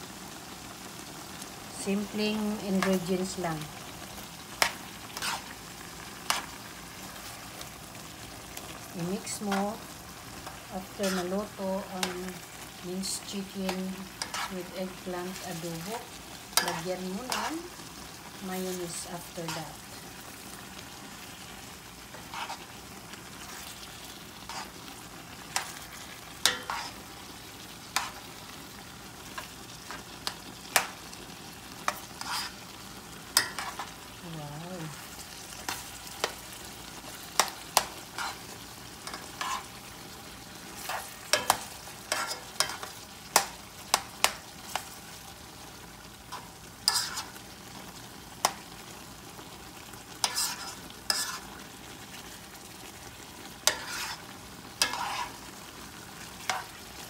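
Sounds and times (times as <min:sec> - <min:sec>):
faint steady sizzle: 0:00.0 - 0:57.0.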